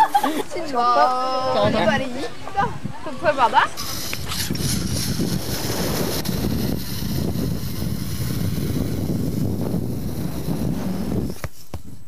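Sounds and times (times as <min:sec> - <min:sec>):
wind buffeting microphone: 0:01.5 - 0:12.0.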